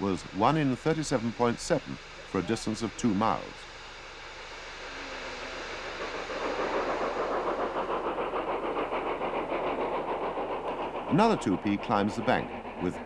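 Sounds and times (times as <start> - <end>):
hiss of steam: 0.0 - 13.0
steam locomotive rhythmic beating: 0.0 - 13.0.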